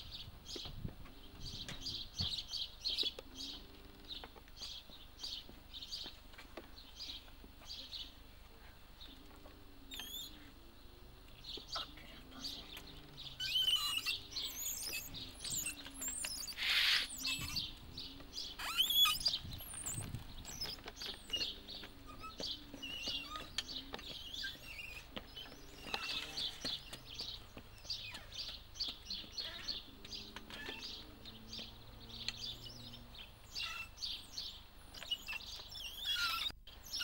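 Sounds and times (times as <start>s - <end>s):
songbirds chirping and singing: 0.0s - 37.0s.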